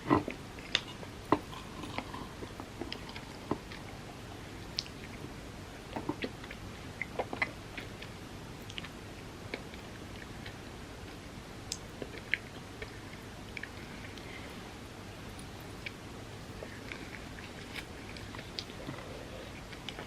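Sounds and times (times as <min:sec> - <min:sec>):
chewing cookies: 0:00.0 - 0:20.0
faint steady hiss: 0:00.0 - 0:20.0.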